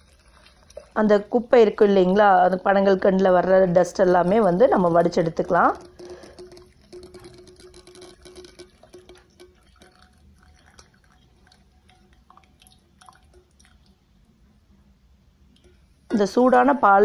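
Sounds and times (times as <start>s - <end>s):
milk trickling through strainer: 0.0s - 14.1s.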